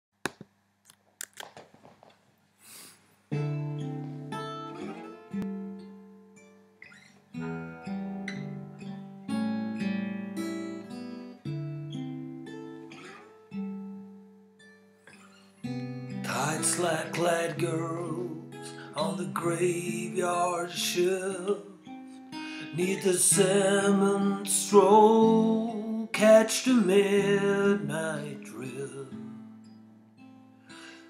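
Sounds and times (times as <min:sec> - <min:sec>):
acoustic guitar chords ringing: 0:03.3 - 0:31.0.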